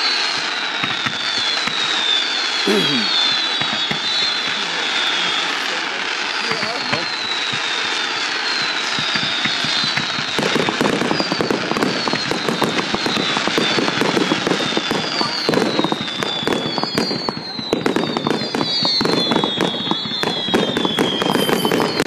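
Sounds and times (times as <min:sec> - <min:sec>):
falling firework whistles: 0:00.0 - 0:22.0
fireworks rushing: 0:00.0 - 0:22.0
rapid firework crackling: 0:00.0 - 0:22.0.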